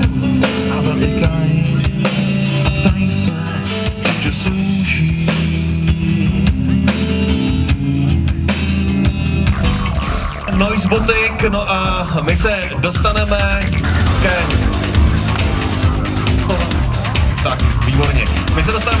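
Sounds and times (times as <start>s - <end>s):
bass guitar: 0.0s - 19.0s
drum kit beat: 0.0s - 19.0s
electric guitars: 0.0s - 19.0s.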